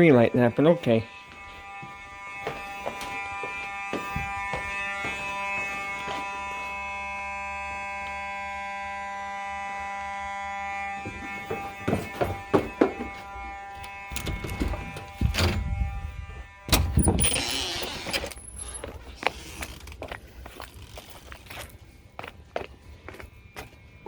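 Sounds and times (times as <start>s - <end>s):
fire alarm horn steady tone: 0.0s - 19.8s, 20.5s - 24.0s.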